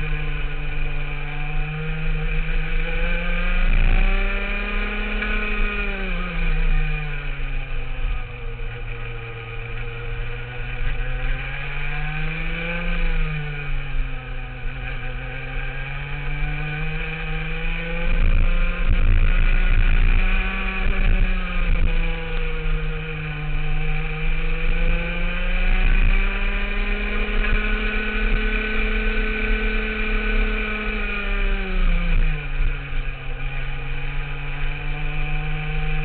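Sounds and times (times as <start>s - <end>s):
kart engine racing: 0.0s - 36.0s.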